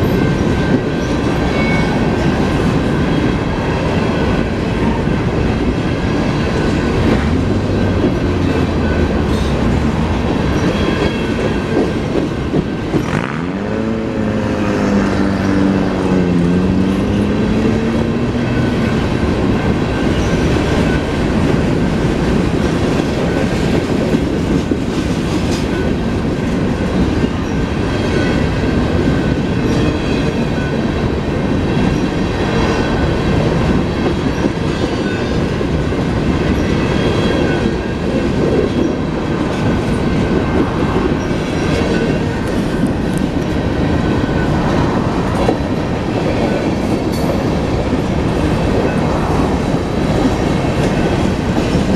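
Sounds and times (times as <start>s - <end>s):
freight train wheels clattering: 0.0s - 51.9s.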